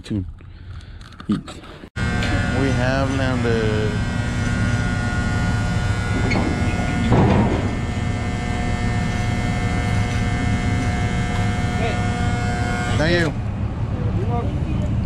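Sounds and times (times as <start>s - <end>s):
ferry engine and machinery drone: 2.0s - 15.0s.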